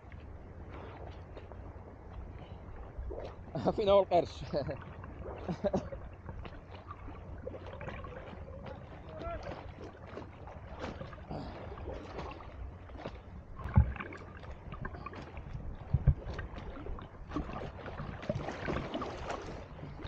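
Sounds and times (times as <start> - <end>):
water splashing from swimmer: 0.0 - 20.0.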